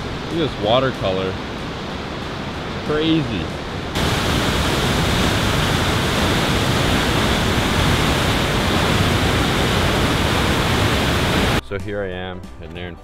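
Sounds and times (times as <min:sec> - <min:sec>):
waterfall crashing: 0:00.0 - 0:11.6.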